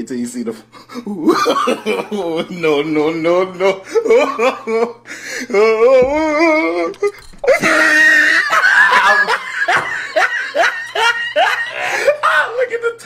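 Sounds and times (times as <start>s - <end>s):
man laughing hard: 0.9s - 12.6s.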